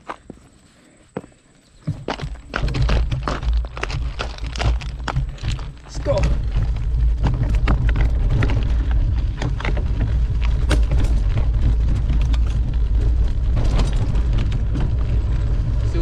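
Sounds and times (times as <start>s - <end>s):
bike clicking and rattling: 1.8s - 16.0s.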